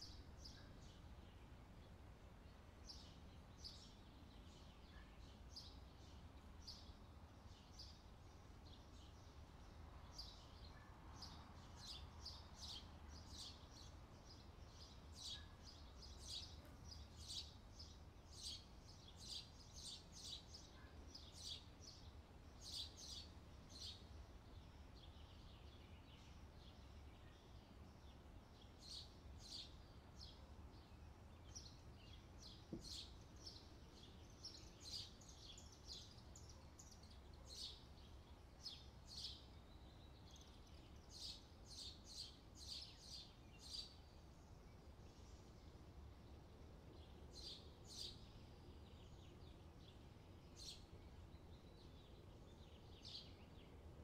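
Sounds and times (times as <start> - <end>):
faint bird chirping: 0.0 - 54.0.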